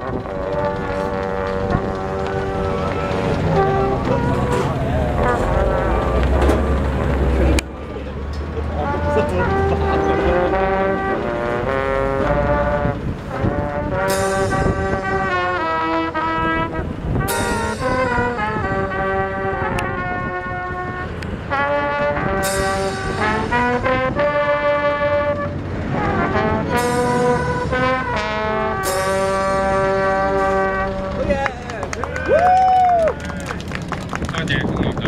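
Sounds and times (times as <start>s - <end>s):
bugles and flutes playing: 0.0s - 7.4s, 8.7s - 33.4s.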